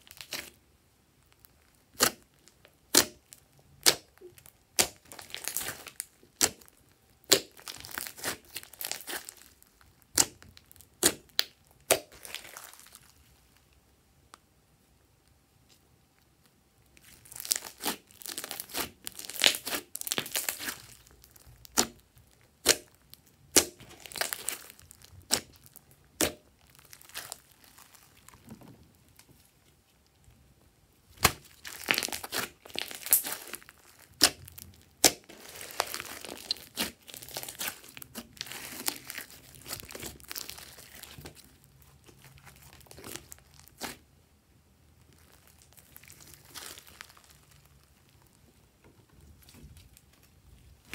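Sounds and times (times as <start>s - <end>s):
slime crackling and popping: 0.0s - 0.6s, 1.2s - 13.8s, 16.2s - 29.3s, 31.1s - 44.1s, 44.9s - 48.4s.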